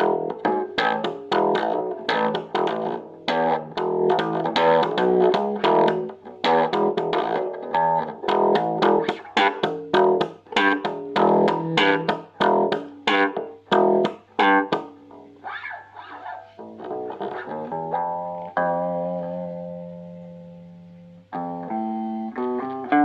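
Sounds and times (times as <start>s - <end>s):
slap bass guitar notes: 0.0s - 15.8s, 16.6s - 23.0s.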